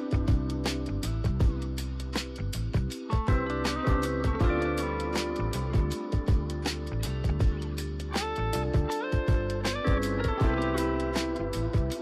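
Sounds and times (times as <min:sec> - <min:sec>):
music with steady beat and guitar: 0:00.0 - 0:12.0.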